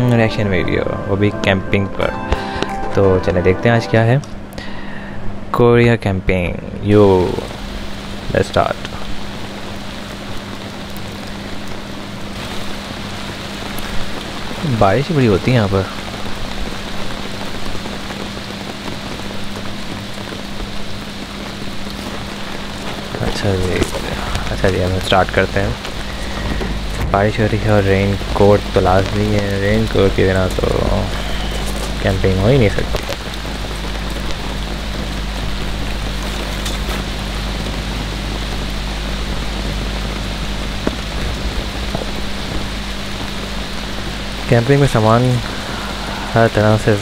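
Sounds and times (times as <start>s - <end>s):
low hum: 0.0s - 47.0s
heavy rain falling: 6.8s - 47.0s.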